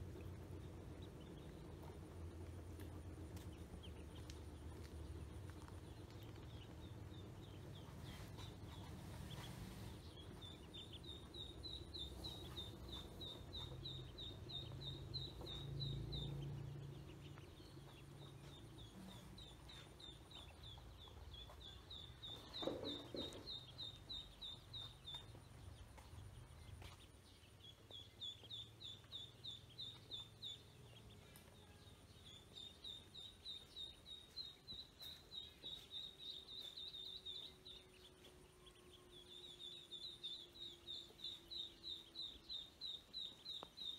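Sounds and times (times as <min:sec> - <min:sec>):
ducklings peeping: 0:00.0 - 0:43.9
low background rumble: 0:00.0 - 0:43.9.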